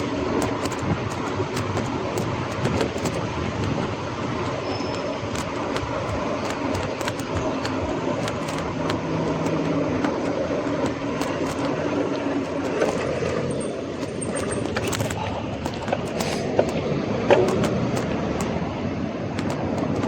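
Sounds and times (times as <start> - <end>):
bike rattling clicks: 0.0 - 20.0
bike tyre rumble: 0.0 - 20.0.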